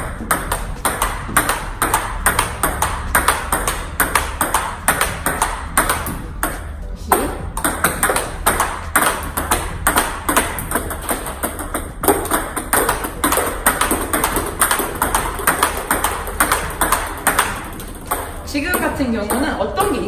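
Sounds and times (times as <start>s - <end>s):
table tennis ball clicking: 0.0s - 20.0s.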